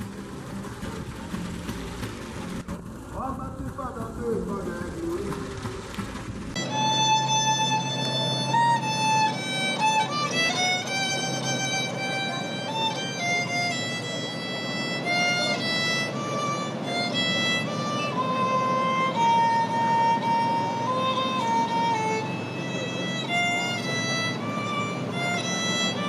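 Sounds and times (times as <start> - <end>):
violin melody: 0.0 - 26.0.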